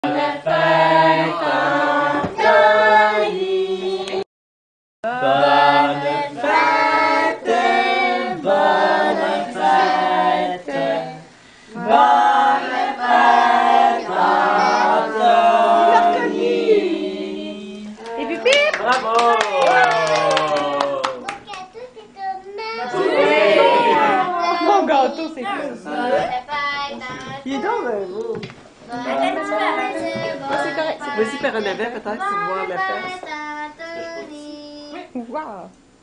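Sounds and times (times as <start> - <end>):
group singing a birthday song: 0.0 - 4.3, 5.0 - 19.0, 22.8 - 35.1.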